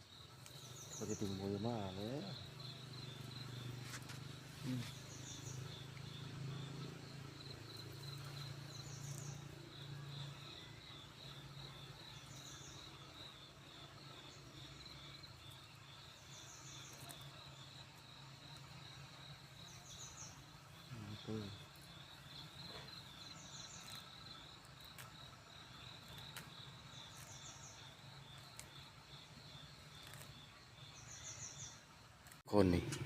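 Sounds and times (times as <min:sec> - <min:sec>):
higher-pitched insect chirp: 0:00.0 - 0:31.9
insects trilling: 0:00.0 - 0:33.0.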